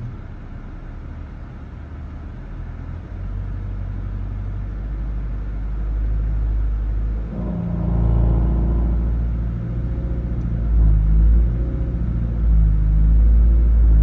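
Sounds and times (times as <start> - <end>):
engine droning vibration: 0.0 - 14.0.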